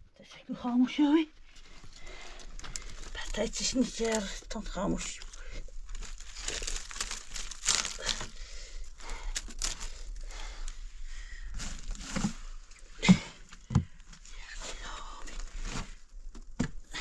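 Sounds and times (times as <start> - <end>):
rustling and crinkling: 0.6 - 17.0.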